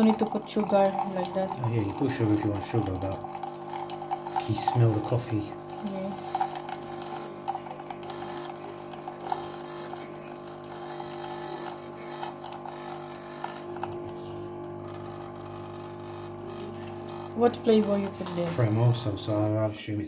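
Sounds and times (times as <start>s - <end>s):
coffee machine pump humming: 0.0s - 20.0s.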